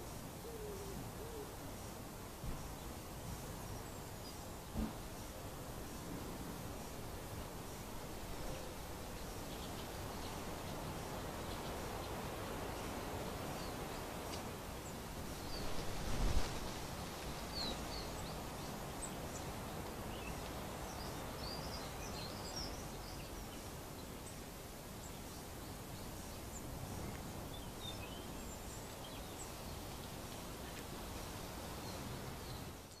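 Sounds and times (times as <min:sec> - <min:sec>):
outdoor background hiss: 0:00.0 - 0:33.0.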